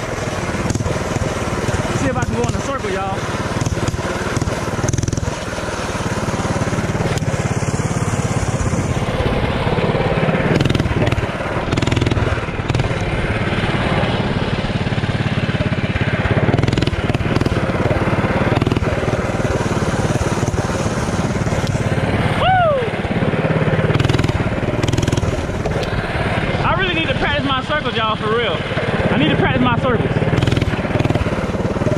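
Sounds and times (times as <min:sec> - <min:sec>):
small engine revving: 0:00.0 - 0:31.9.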